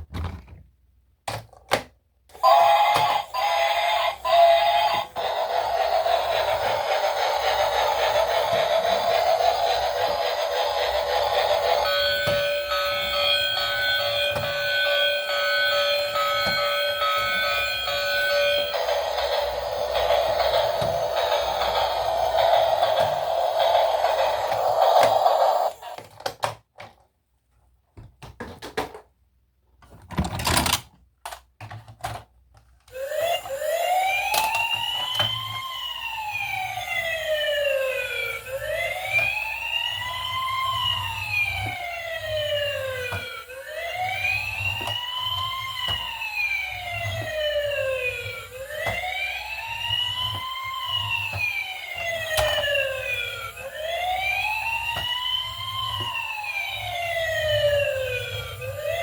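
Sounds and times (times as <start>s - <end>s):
toy siren wailing: 2.4s - 26.1s, 32.9s - 59.0s.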